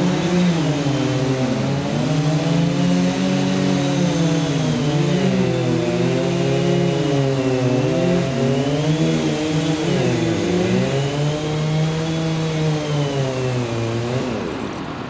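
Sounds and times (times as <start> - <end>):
engine with wavering pitch: 0.0 - 15.0.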